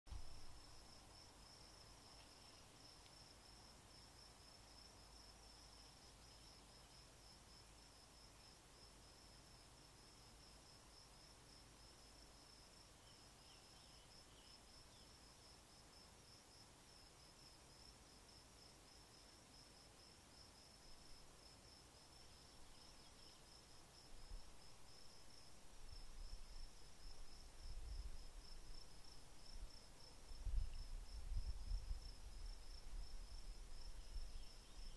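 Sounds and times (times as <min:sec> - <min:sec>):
insect chirping: 0:00.1 - 0:34.9.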